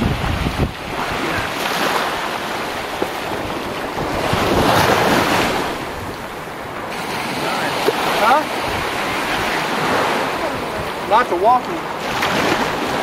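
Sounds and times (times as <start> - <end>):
wind on microphone: 0.0 - 11.1
ocean surf washing: 0.0 - 13.0.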